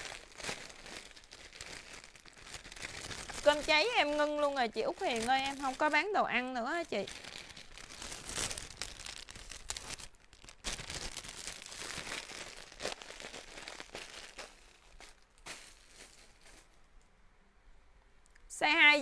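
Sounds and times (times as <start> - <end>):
clothing and plastic wrapping rustling: 0.0 - 17.1.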